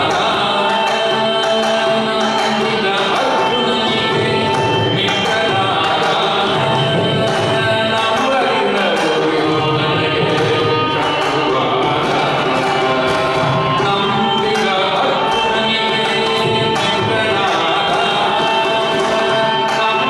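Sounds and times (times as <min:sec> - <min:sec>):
man singing: 0:00.0 - 0:20.0
violin: 0:00.0 - 0:20.0.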